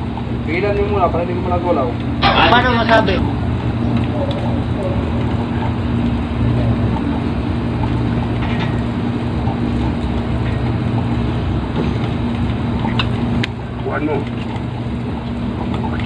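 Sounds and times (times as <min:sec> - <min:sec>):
engine running with low drone: 0:00.0 - 0:16.0.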